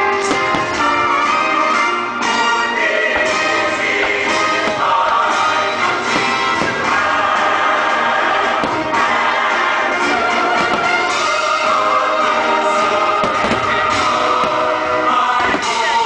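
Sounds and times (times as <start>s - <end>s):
choir singing with orchestra: 0.0s - 16.0s.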